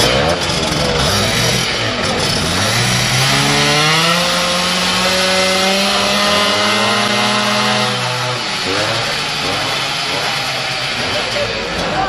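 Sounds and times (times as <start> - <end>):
two-stroke moped engine revving: 0.0 - 12.0.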